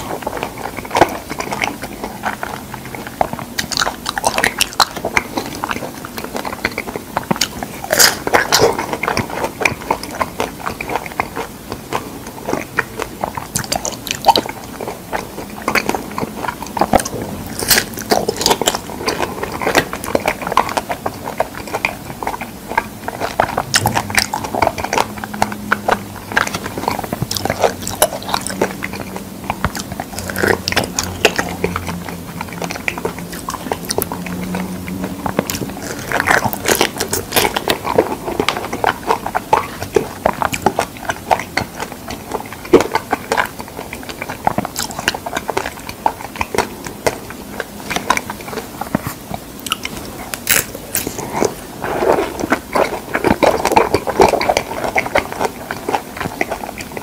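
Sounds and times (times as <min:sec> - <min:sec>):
chewing soft wet fruit: 0:00.0 - 0:57.0.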